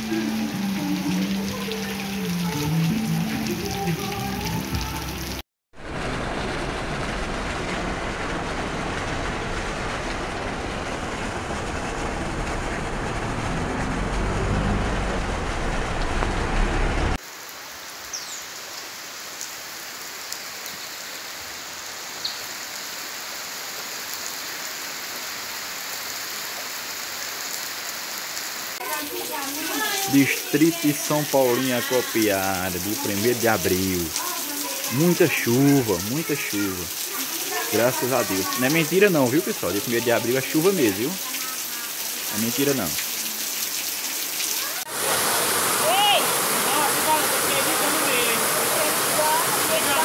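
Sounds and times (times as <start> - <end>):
heavy rain: 0.0 - 50.0
water streaming off roof edge: 0.0 - 50.0.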